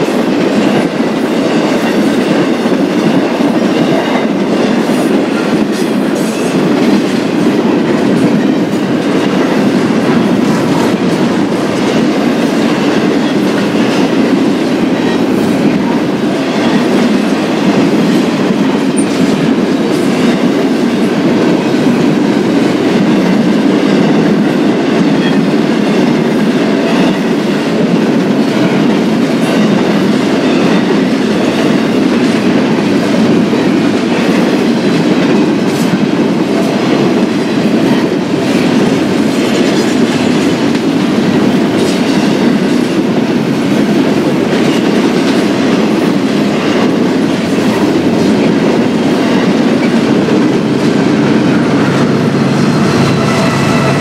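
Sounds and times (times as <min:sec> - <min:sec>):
freight train wheels clickety-clack: 0:00.0 - 0:54.0.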